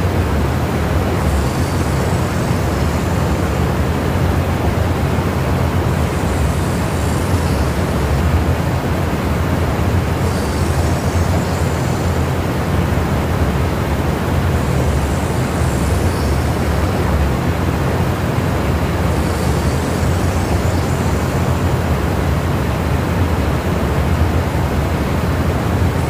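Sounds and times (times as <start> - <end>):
faint high hiss: 0.0 - 26.0
low engine drone: 0.0 - 26.0.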